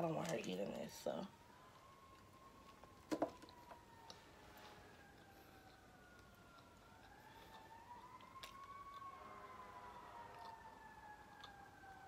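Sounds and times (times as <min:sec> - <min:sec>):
distant siren wailing: 0:00.0 - 0:12.0.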